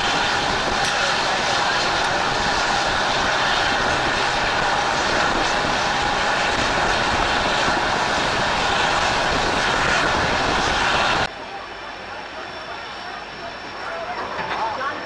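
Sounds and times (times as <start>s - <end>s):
train wheel and track noise: 0.0s - 15.0s.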